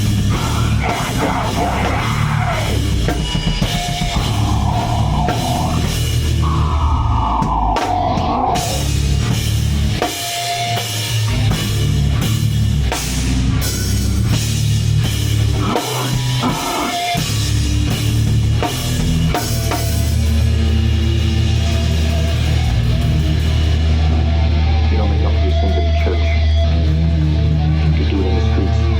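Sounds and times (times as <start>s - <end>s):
heavy metal band playing: 0.0s - 28.9s.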